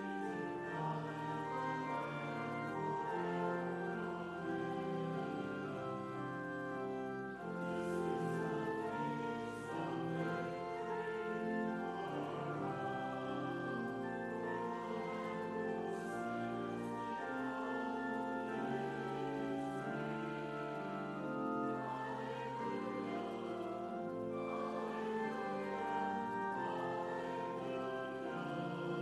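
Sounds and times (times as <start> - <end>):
congregation singing a hymn: 0.0 - 29.0
organ: 0.0 - 29.0.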